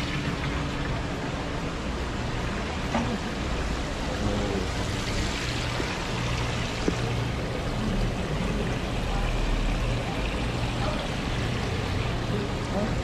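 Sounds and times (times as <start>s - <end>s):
aerator water bubbling: 0.0s - 13.0s.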